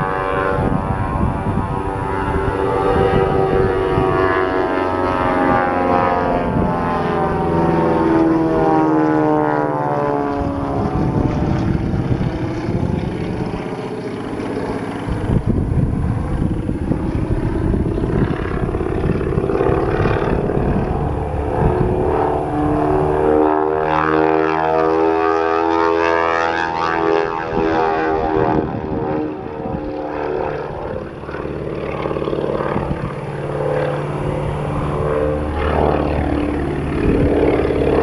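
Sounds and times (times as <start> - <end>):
propeller plane engines passing: 0.0 - 38.0.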